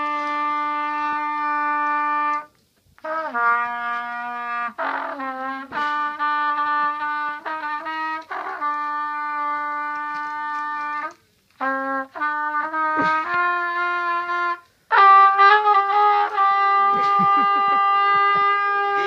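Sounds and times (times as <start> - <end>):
trumpet playing: 0.0 - 19.0.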